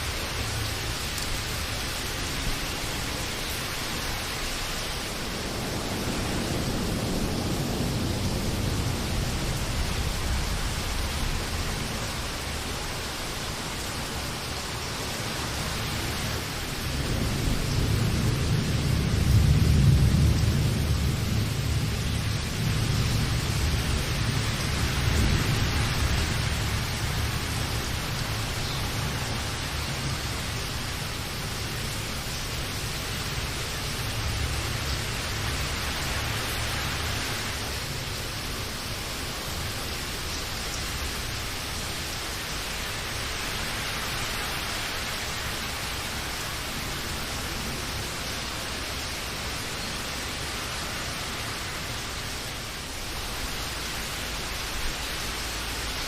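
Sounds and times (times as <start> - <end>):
low rumble of thunder: 0.0 - 56.0
steady rain: 0.0 - 56.0.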